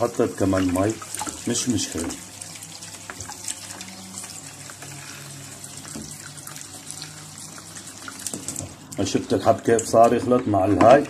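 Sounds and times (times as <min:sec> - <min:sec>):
tap running into basin: 0:00.0 - 0:11.0
water splashing from stirring: 0:00.0 - 0:11.0.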